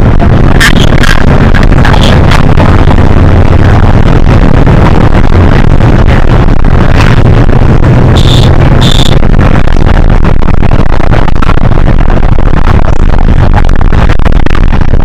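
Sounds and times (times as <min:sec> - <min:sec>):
bus diesel engine drone: 0:00.0 - 0:15.0
road noise: 0:00.0 - 0:15.0.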